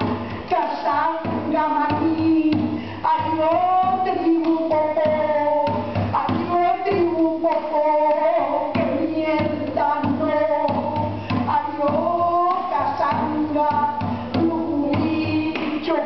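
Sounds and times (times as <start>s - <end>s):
hand drum beat: 0.0s - 16.0s
woman singing: 0.0s - 16.0s.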